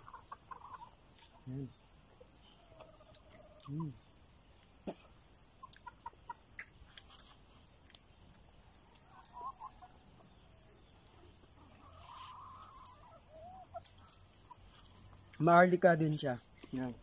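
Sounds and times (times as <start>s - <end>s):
distant chickens clucking: 0.0s - 15.4s
high insect drone: 0.0s - 17.0s.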